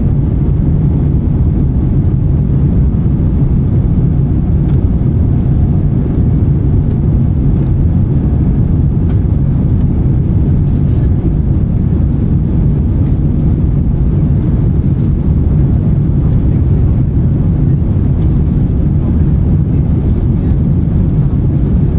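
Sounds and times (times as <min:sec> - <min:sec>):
aircraft cabin engine rumble: 0:00.0 - 0:21.9.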